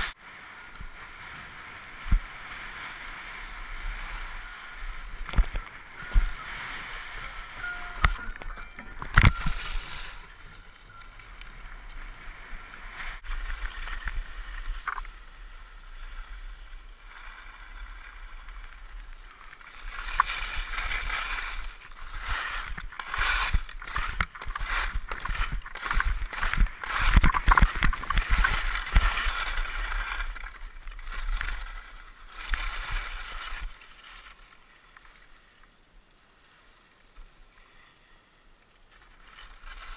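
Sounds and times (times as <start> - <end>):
skis scraping over snow: 0.0 - 39.9.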